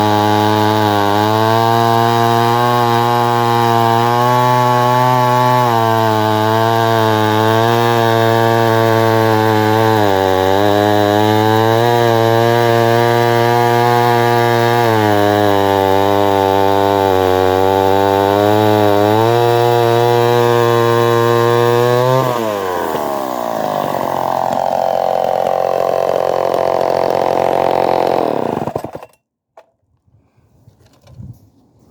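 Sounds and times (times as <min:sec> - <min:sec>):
two-stroke chainsaw running: 0:00.0 - 0:29.2.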